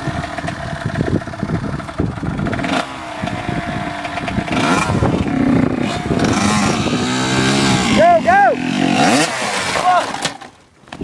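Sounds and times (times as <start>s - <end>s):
dirt bike engine revving: 0.0s - 10.5s.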